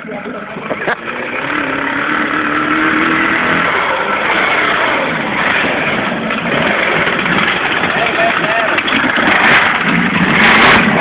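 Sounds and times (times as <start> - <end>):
motorcycle engine revving hard: 0.7 - 11.0.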